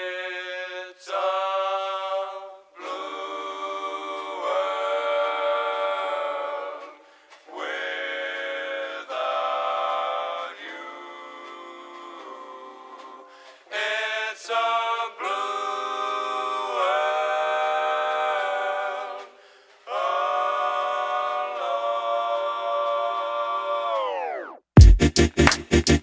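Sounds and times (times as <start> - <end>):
choir-like sung chords: 0.0 - 24.6.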